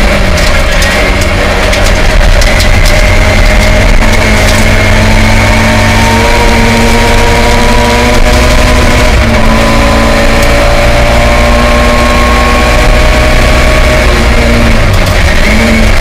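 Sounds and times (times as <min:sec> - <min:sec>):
gear change: 0:00.0 - 0:16.0
rally car engine revving high: 0:00.0 - 0:16.0.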